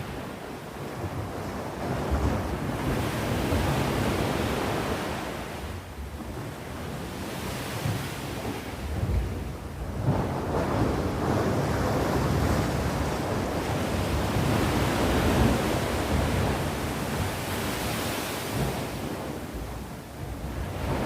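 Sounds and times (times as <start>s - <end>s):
sea waves breaking on shore: 0.0s - 21.0s
wind rumbling on microphone: 0.0s - 21.0s.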